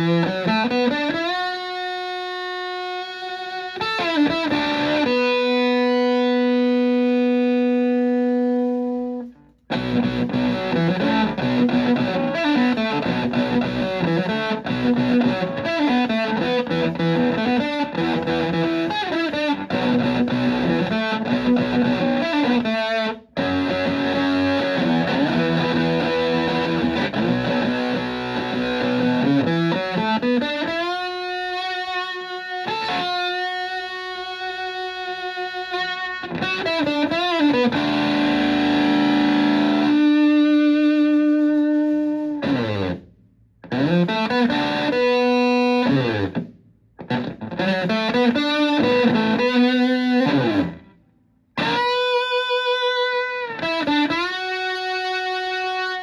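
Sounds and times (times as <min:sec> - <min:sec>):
fuzzy electric guitar: 0:00.0 - 0:56.0.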